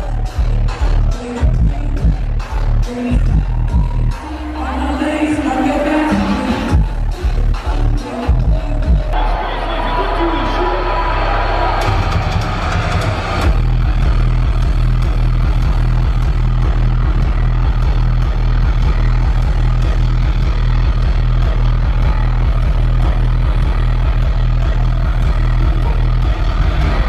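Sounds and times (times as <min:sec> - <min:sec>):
loud dubstep music: 0:00.0 - 0:27.0
pulsing sub-bass: 0:00.0 - 0:27.0.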